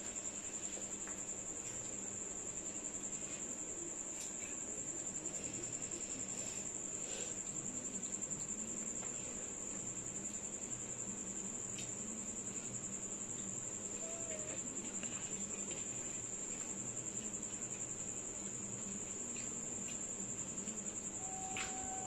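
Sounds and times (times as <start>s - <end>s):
cricket trilling: 0.1s - 22.0s.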